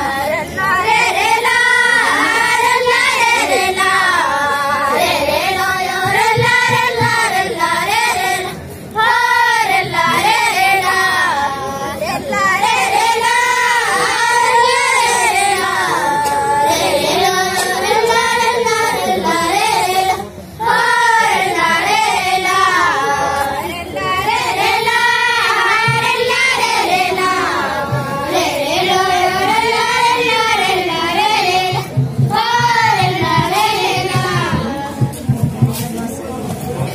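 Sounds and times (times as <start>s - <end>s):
girls singing together: 0.0s - 35.8s.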